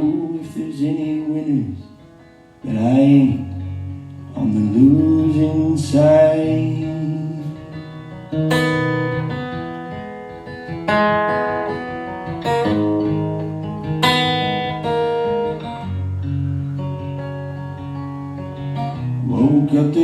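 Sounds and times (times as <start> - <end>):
acoustic guitar strummed chords: 0.0 - 20.0.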